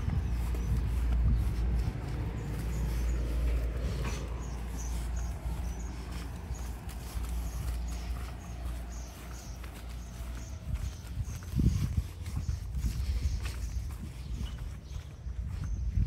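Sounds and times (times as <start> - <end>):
footsteps on pavement: 0.0 - 16.0.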